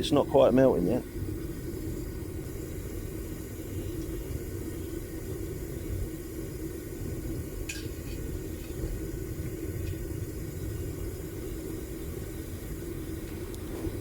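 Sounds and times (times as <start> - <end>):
propane burner rumbling: 0.0 - 14.0.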